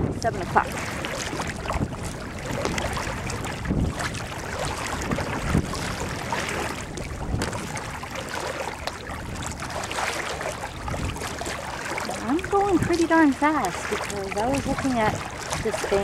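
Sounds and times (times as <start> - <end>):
water lapping against hull: 0.0 - 16.0
wind buffeting microphone: 0.0 - 16.0.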